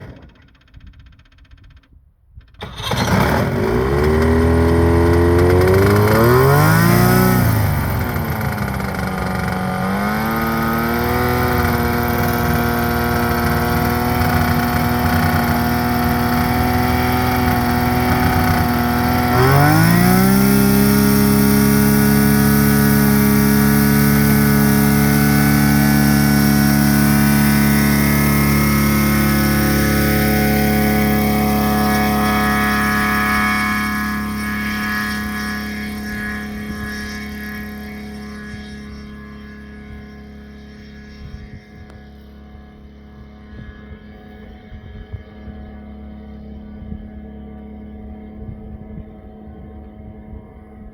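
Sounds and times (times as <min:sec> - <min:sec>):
piston aircraft engine: 0:00.0 - 0:50.9.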